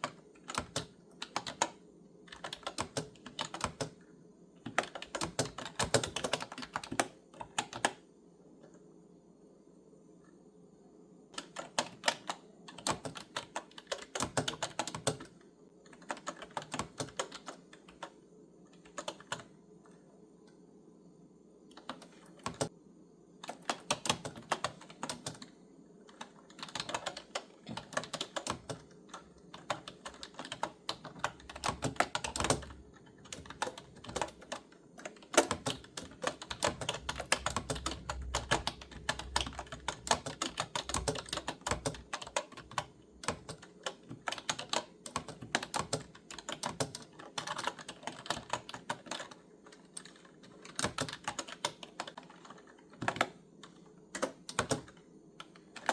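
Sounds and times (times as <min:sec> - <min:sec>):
clicky keyboard typing: 0:00.0 - 0:08.8, 0:11.3 - 0:20.6, 0:21.7 - 0:22.8, 0:23.4 - 0:55.9.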